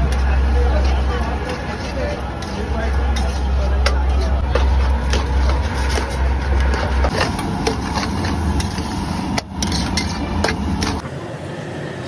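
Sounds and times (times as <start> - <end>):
steel spatula scraping a pan: 0.0 - 11.0.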